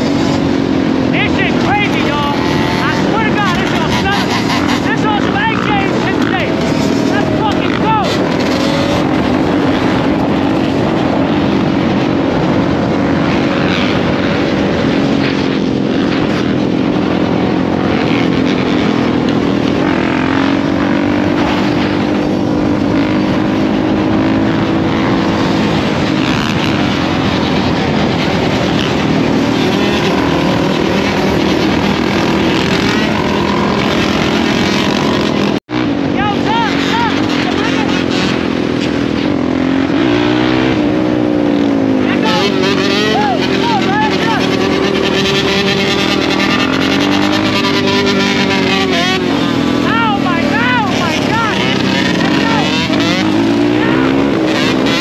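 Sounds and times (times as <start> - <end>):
dirt bike and atv engines revving: 0.0 - 55.0.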